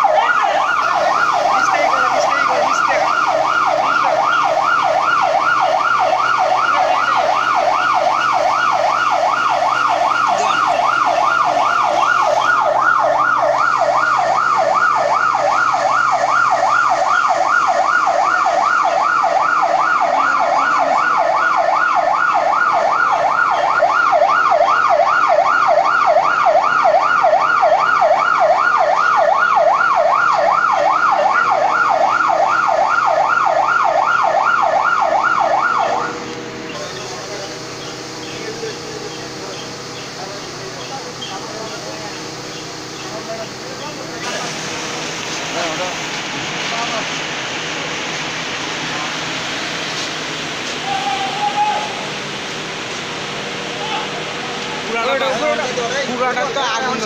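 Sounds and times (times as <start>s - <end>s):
electronic siren yelping: 0.0s - 47.1s, 48.0s - 52.5s.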